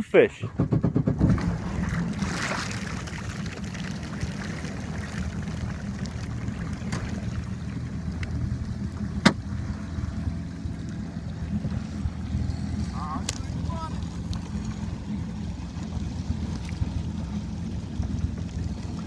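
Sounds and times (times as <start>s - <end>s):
jet ski engine idling: 0.0s - 19.0s.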